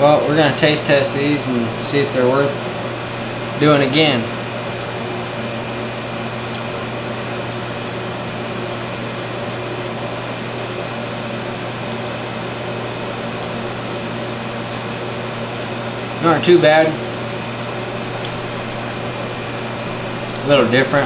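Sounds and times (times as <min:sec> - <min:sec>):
machine hum with hiss: 0:00.0 - 0:21.0.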